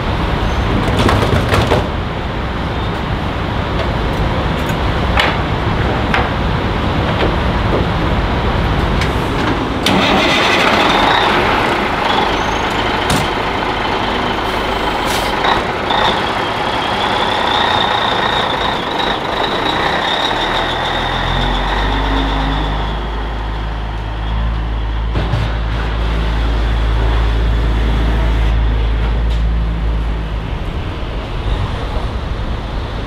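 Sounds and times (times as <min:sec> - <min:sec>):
truck diesel engine rumble: 0:00.0 - 0:33.0.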